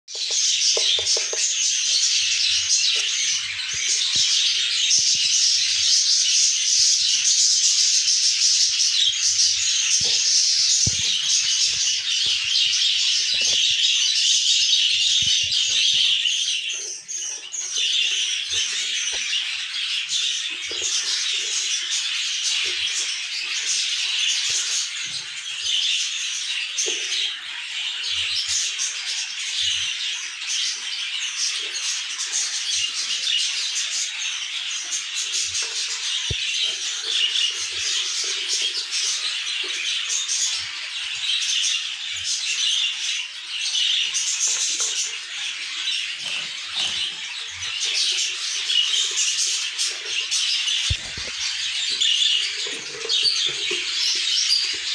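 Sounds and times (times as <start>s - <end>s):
budgerigars chattering: 0.1s - 54.9s.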